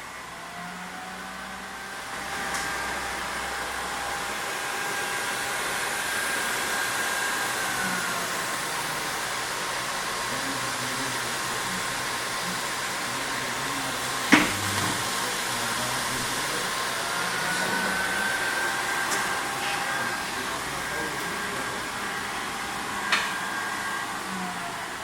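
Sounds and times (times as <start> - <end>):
wrapping machine whirring: 0.5 - 25.0.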